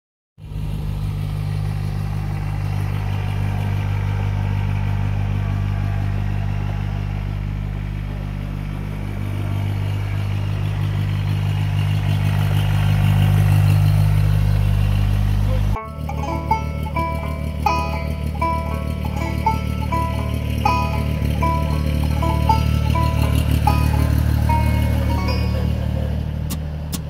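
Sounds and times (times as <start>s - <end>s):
diesel tractor engine driving: 0.4s - 27.0s.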